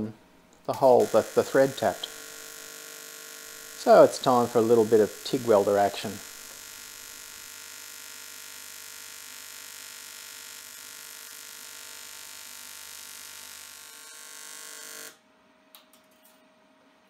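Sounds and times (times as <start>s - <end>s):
welding arc buzzing: 0.0s - 15.2s.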